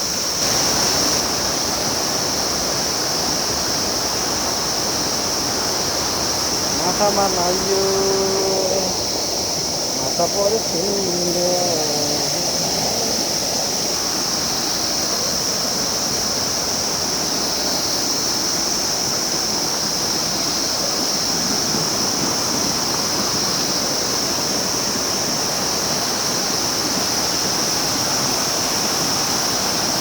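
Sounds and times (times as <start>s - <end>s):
constant high hiss: 0.0s - 30.0s
rushing river water: 0.0s - 30.0s.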